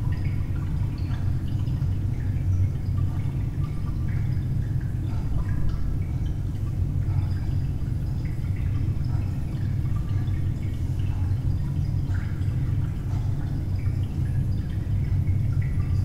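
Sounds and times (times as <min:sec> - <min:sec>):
deep ambient drone: 0:00.0 - 0:16.0
faint drip-like blips: 0:00.0 - 0:16.0.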